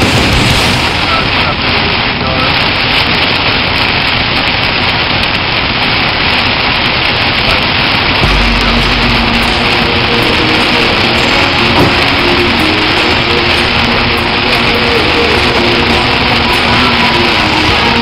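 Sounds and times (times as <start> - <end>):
heavy rain on a car: 0.0 - 18.0.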